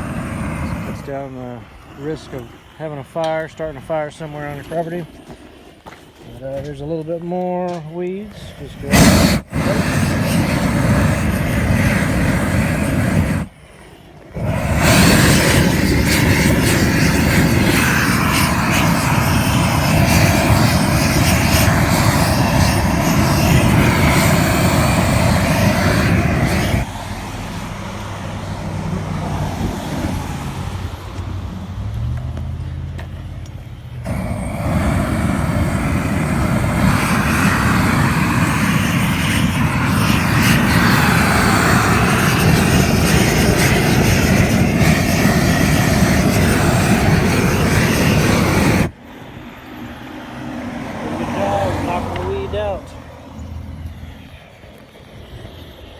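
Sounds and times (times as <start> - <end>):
weed torch flame rushing: 0.0 - 6.2, 8.4 - 31.8, 34.0 - 49.0, 50.7 - 53.4.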